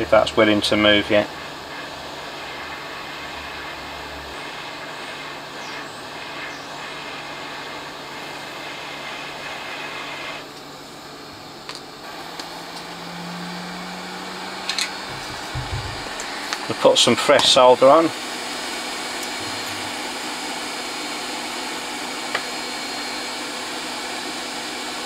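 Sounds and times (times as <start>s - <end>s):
hot air blower hissing: 0.0s - 25.0s.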